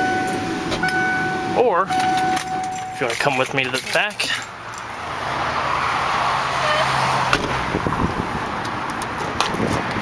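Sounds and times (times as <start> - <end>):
road traffic rumble and hiss: 0.0 - 10.0.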